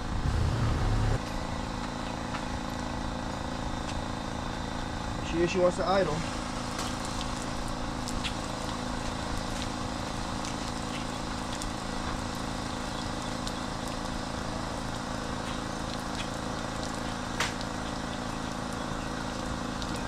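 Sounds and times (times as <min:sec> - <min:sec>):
outboard engine idling: 0:00.0 - 0:20.0.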